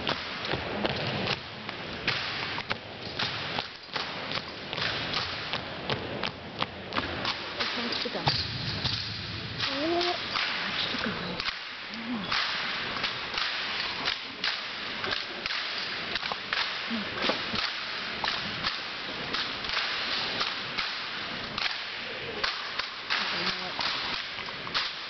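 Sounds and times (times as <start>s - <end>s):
hands slapping rifles: 0.0s - 25.0s.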